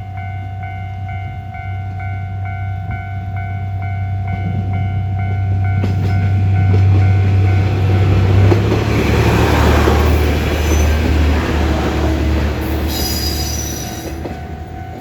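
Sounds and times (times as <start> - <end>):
crossing warning bell dinging: 0.0 - 15.0
rail rumble: 0.0 - 15.0
train engine drone: 0.0 - 15.0.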